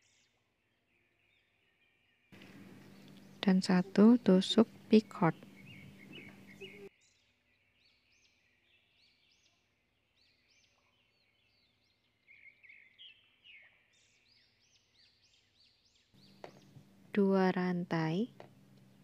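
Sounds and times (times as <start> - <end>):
faint bird chirps: 0.0 - 16.8.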